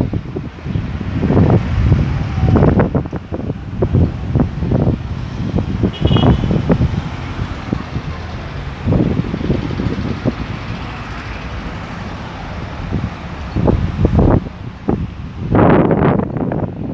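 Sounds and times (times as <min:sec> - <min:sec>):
cars and trucks driving past: 0:00.0 - 0:16.9
wind buffeting microphone: 0:00.0 - 0:16.9.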